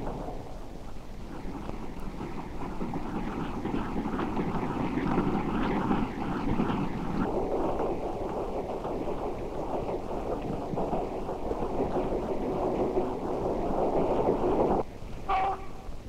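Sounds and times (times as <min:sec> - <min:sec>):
passing train rumbling: 0:00.0 - 0:16.0.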